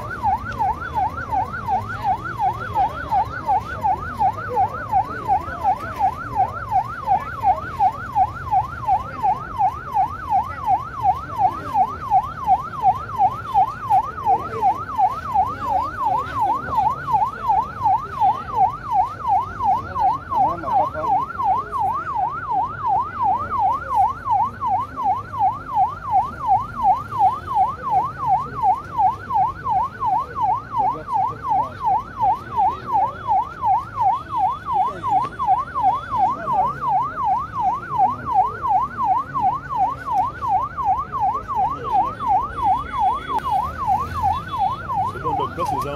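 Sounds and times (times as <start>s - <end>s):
ambulance siren yelping: 0.0s - 45.9s.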